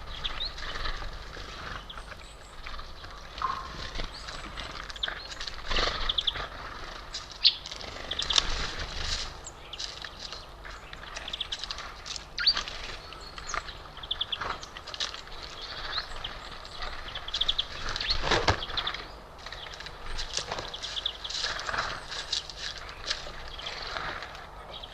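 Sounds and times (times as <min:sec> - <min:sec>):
bird trills: 0:00.0 - 0:24.9
songbirds chirping: 0:00.0 - 0:24.9
clicks and rustles: 0:00.4 - 0:24.9.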